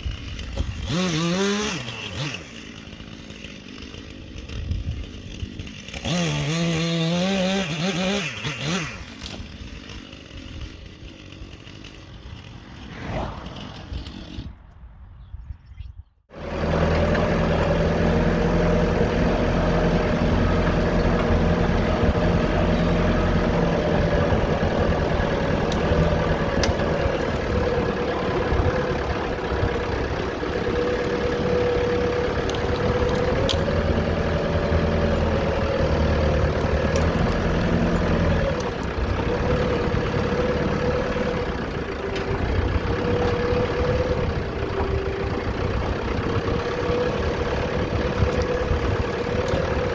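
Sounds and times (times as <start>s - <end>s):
tractor engine running: 0.0s - 15.1s, 16.3s - 49.9s.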